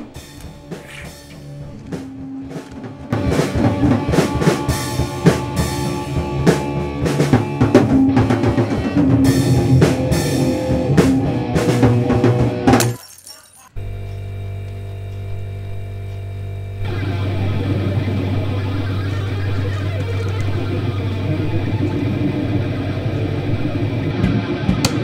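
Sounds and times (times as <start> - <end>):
band music: 0.0 - 12.9, 16.8 - 25.0.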